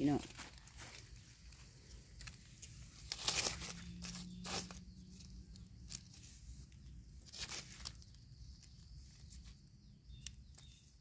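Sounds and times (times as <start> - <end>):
rustling of dry leaf litter: 0.0 - 11.0.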